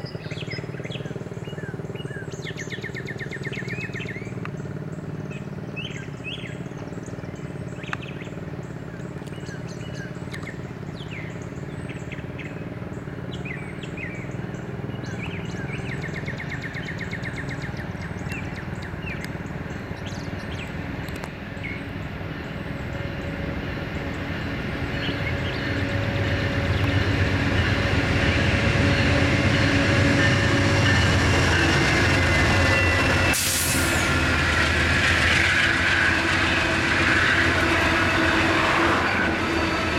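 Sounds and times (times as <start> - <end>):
birds chirping: 0.0 - 39.9
diesel locomotive engine drone: 0.0 - 39.9.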